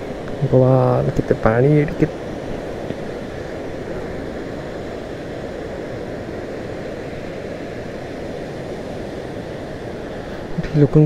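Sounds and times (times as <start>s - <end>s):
water rushing over a weir: 0.0s - 11.0s.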